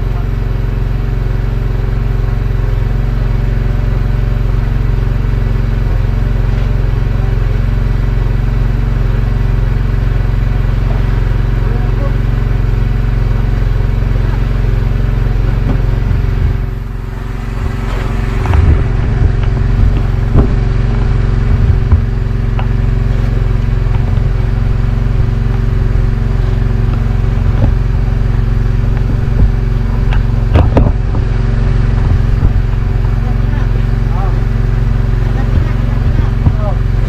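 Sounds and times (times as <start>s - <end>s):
boat engine droning: 0.0s - 37.0s
gear knocking and clattering: 0.0s - 37.0s.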